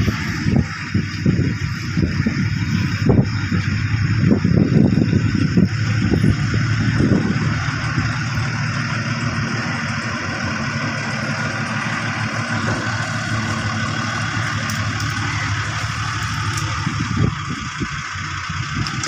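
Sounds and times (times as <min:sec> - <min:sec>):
road roller diesel engine running: 0:00.0 - 0:19.0.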